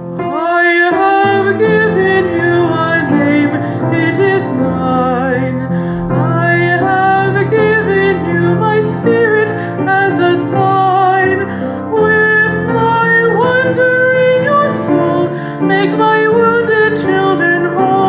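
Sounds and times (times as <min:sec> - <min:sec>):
woman singing a hymn: 0:00.2 - 0:18.0.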